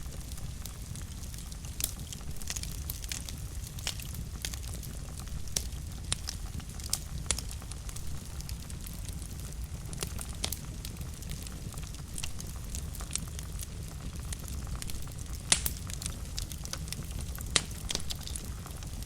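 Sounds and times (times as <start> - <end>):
fire crackles and pops: 0.0 - 19.0
fire low rumble: 0.0 - 19.0.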